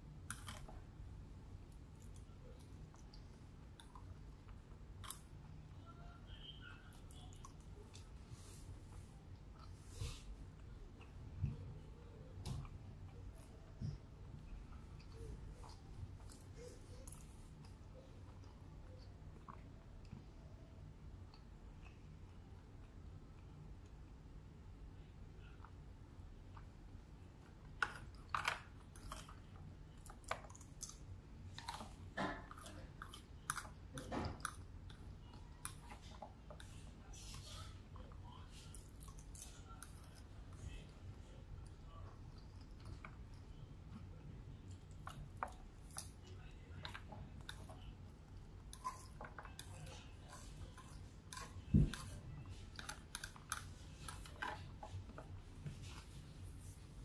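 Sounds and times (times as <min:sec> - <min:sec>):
chewing food: 0:00.0 - 0:05.7, 0:06.8 - 0:24.0, 0:25.4 - 0:56.9.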